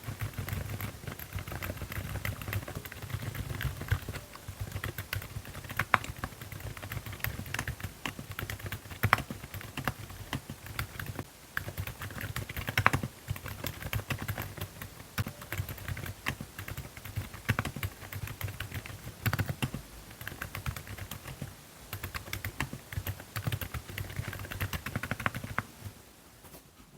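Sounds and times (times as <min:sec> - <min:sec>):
keyboard typing: 0:00.0 - 0:25.9.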